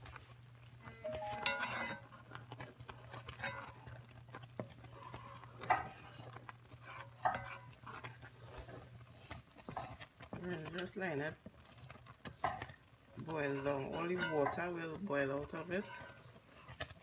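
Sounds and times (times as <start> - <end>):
wooden spoon scraping a pot: 0.0 - 17.0.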